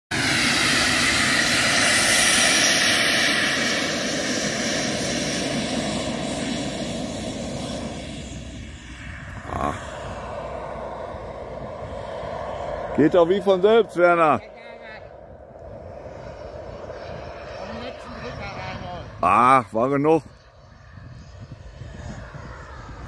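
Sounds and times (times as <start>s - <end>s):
model jet whine: 0.1s - 23.0s.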